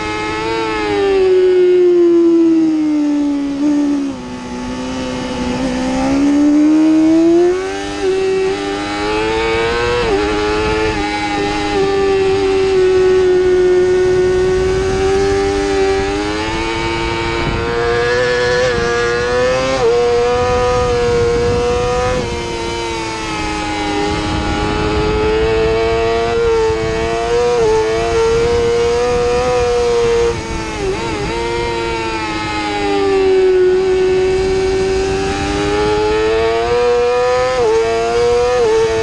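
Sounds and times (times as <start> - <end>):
motorcycle engine at high revs: 0.0 - 39.0
rushing wind: 0.0 - 39.0.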